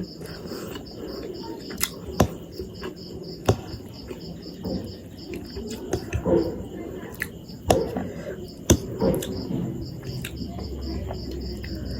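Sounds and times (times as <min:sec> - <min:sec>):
cricket chirping: 0:00.0 - 0:11.9
soft eating noises: 0:00.0 - 0:11.9.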